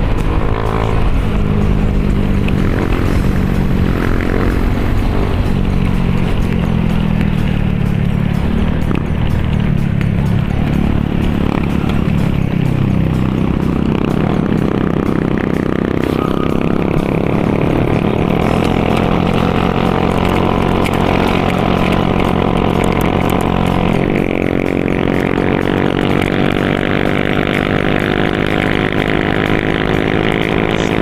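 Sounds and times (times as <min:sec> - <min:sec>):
background music: 0:00.0 - 0:31.0
motorbike engine cruising: 0:00.0 - 0:31.0
road and wind noise: 0:00.0 - 0:31.0.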